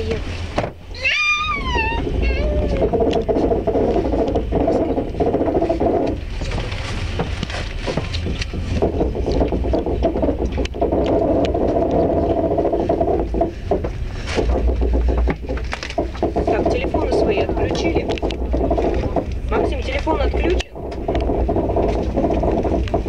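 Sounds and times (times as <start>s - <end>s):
clicks knocks and rattles: 0.0s - 23.0s
train wheels rumbling on track: 0.0s - 23.0s.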